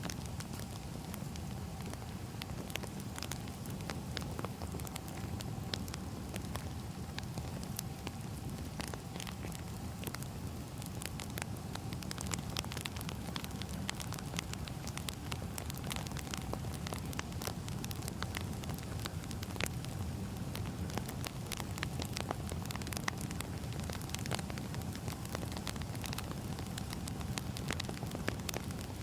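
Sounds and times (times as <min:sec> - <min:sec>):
firewood crackling: 0:00.0 - 0:29.0.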